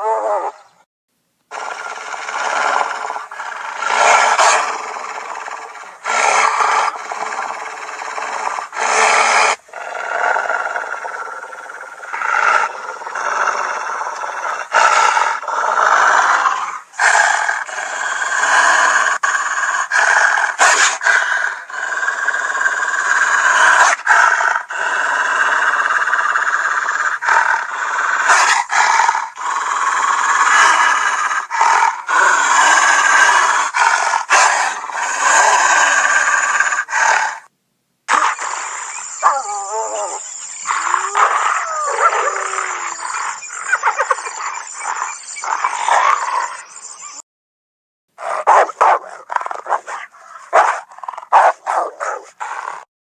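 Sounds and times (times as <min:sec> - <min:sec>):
hyenas growling: 0:01.5 - 0:37.5, 0:38.1 - 0:47.2, 0:48.2 - 0:52.9.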